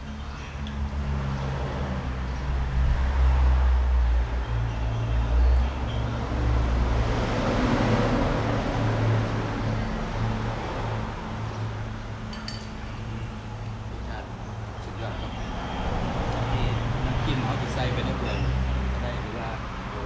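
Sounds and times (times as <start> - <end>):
passing engine and tyre noise: 0.0 - 20.0.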